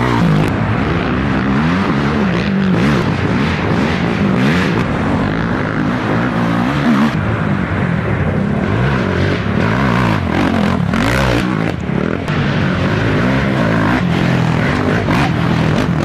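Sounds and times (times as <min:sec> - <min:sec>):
racing atv engines revving: 0:00.0 - 0:16.0.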